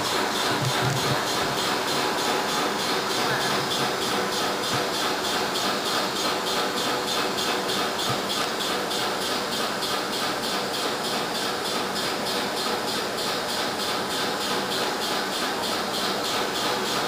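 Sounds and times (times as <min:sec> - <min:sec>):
pulsing machine hiss: 0:00.0 - 0:17.0.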